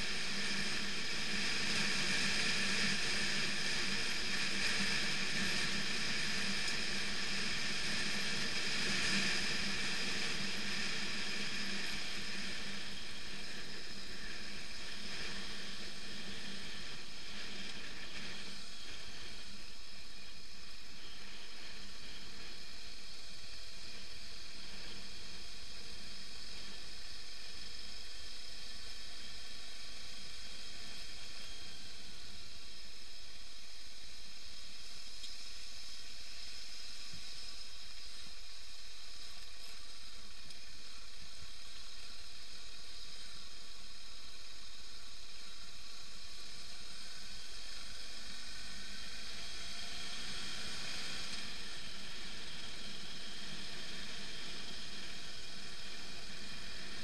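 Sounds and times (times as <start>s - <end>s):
gravel road noise: 0.0s - 57.0s.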